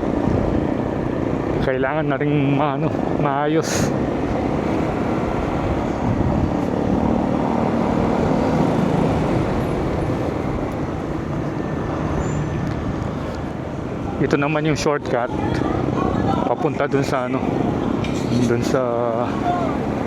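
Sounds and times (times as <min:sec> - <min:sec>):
road and wind noise: 0:00.0 - 0:20.0
vehicle engine hum: 0:00.0 - 0:20.0.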